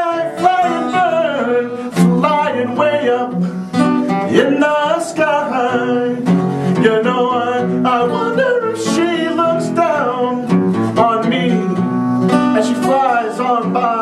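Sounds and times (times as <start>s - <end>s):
person singing: 0.0s - 11.8s, 12.4s - 14.0s
acoustic guitar strummed and picked: 0.0s - 14.0s.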